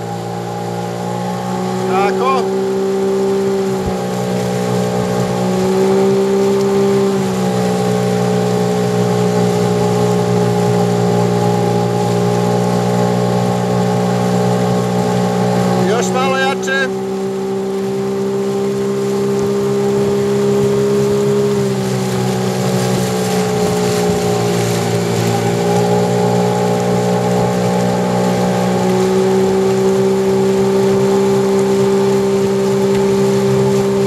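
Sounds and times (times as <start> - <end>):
boat motor droning: 0.0 - 34.0.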